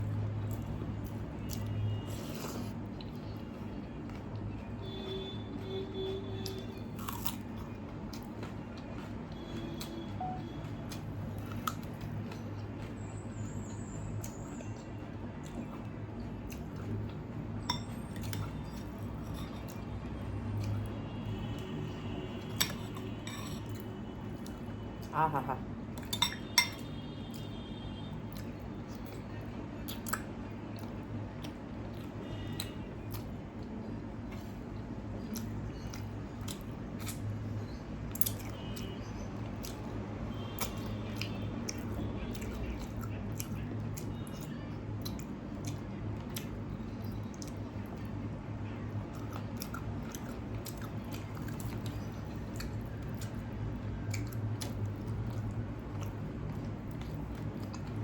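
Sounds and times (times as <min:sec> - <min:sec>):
person chewing: 0:00.0 - 0:27.6, 0:28.2 - 0:40.0, 0:40.6 - 0:58.0.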